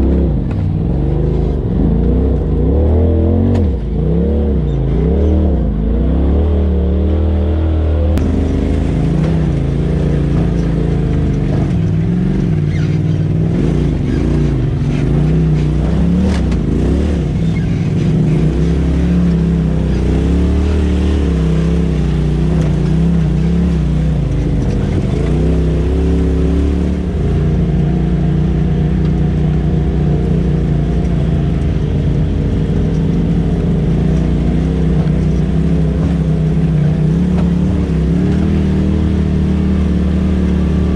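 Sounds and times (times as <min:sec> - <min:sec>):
utility vehicle engine: 0:00.0 - 0:40.9.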